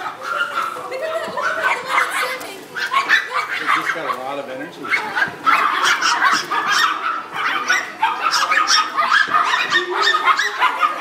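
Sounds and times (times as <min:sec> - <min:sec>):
puppies yapping: 0:00.0 - 0:11.0.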